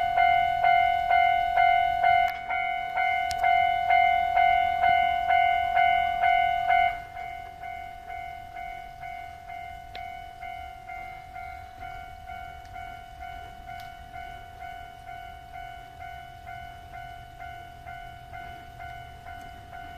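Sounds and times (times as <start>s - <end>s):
level crossing warning bell: 0.0s - 19.9s.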